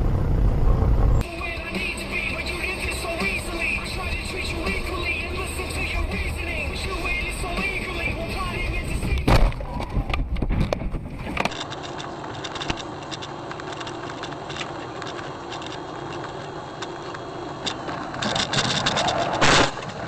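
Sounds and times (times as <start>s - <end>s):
car driving noise: 0.0s - 20.0s.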